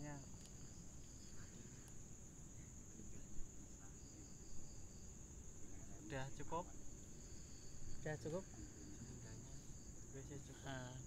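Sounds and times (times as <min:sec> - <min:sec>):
crickets trilling: 0:00.0 - 0:11.0
lower cricket trill: 0:00.0 - 0:11.0.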